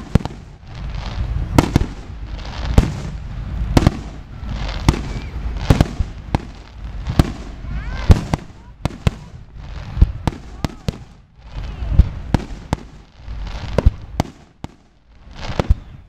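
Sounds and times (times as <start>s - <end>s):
firework bangs: 0.0s - 16.0s
firework crackling: 0.0s - 16.0s.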